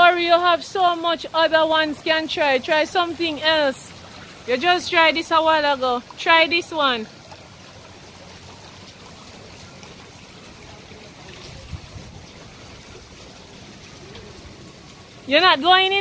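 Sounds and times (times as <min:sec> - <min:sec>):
running water trickling and splashing: 0:00.0 - 0:16.0.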